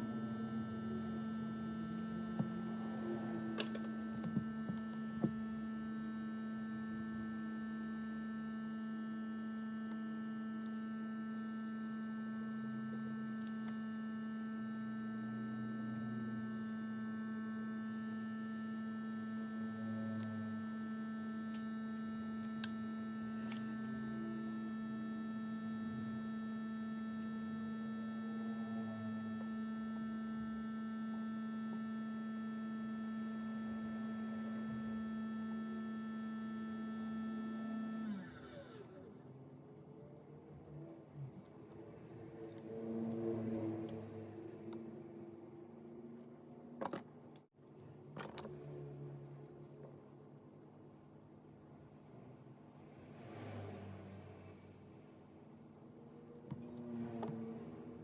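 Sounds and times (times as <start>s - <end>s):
steady electrical hum: 0.0s - 53.0s.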